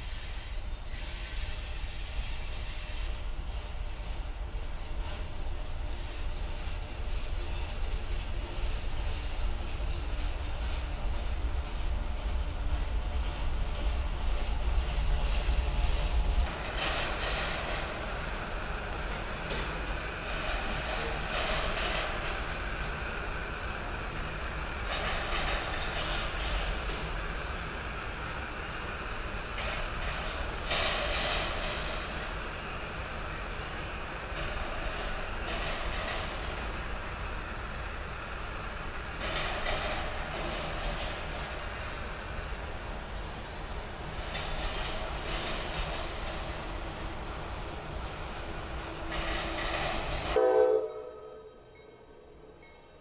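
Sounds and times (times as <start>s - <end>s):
train wheels rumbling and clattering: 0.0s - 50.4s.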